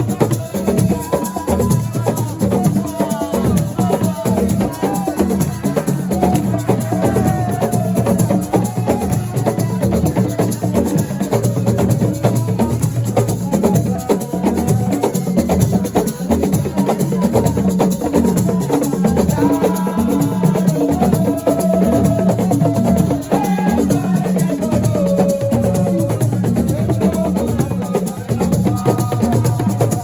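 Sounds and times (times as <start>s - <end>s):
fast percussion drumming: 0.0s - 30.0s
shakers: 0.0s - 30.0s.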